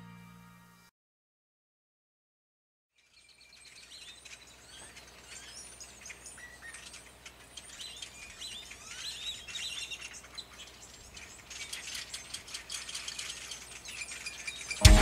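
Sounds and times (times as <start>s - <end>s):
small birds chirping: 2.9s - 15.0s.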